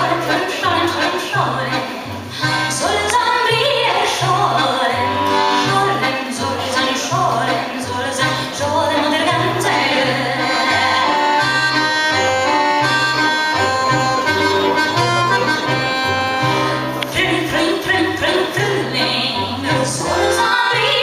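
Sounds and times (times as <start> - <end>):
accordion playing chords: 0.0 - 21.0
double bass plucking: 0.0 - 21.0.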